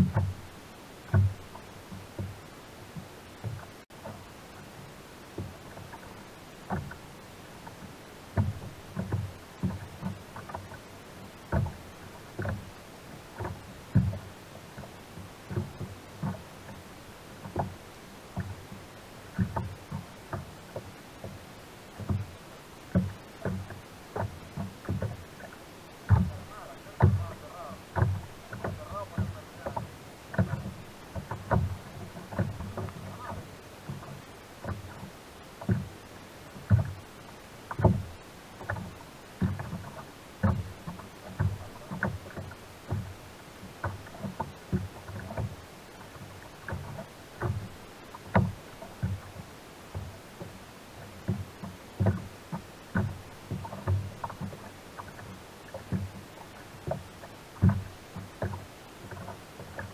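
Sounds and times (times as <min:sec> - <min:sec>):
background water wash: 0:00.0 - 0:59.9
waves slapping against kayak hull: 0:00.0 - 0:59.9.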